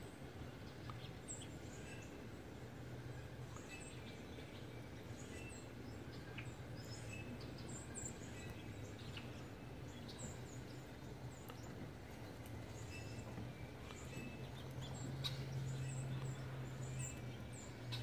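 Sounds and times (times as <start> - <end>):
low background rumble: 0.0 - 18.0
songbirds chirping: 0.0 - 18.0.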